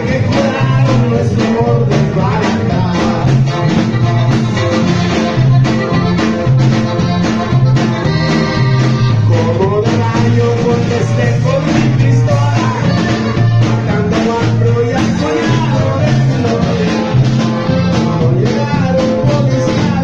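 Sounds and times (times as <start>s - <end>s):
accordion: 0.0s - 20.0s
bajo sexto guitar: 0.0s - 20.0s
bass line: 0.0s - 20.0s.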